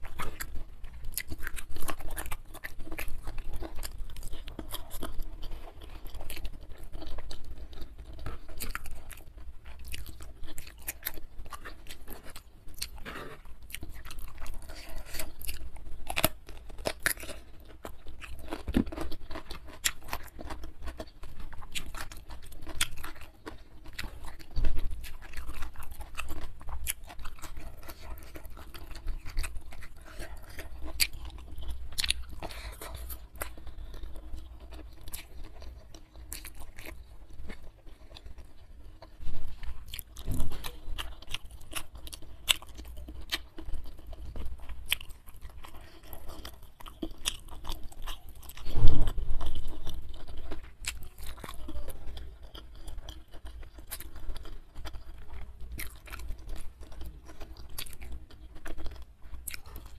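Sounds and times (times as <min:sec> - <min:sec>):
wet chewing and crunching: 0:00.0 - 0:59.9.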